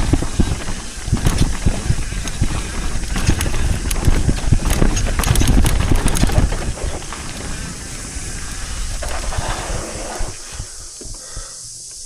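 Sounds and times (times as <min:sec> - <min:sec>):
bike chain and frame rattling: 0:00.0 - 0:10.5
wind rumbling on microphone: 0:00.0 - 0:11.5.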